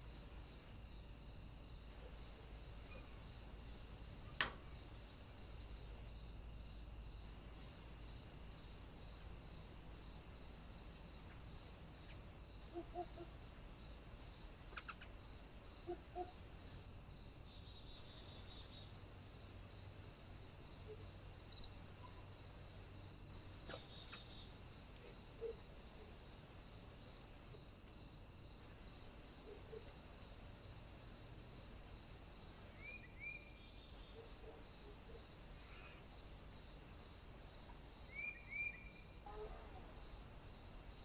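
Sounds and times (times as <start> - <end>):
faint pulsing high-pitched hiss: 0.0 - 41.0.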